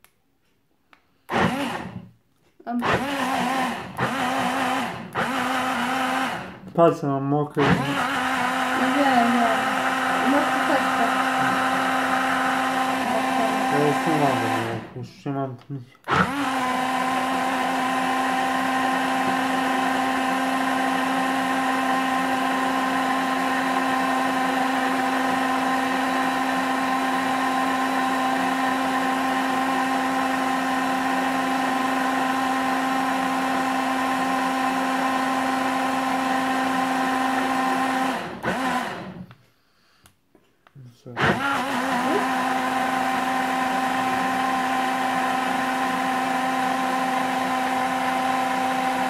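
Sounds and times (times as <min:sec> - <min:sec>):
blender motor whine: 0:01.3 - 0:02.1, 0:02.7 - 0:15.0, 0:16.0 - 0:39.4, 0:41.1 - 0:49.0.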